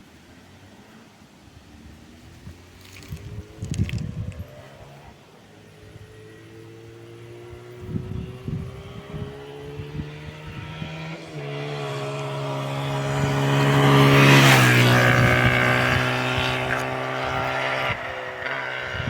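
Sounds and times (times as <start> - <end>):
motorcycle engine running: 2.2 - 19.0.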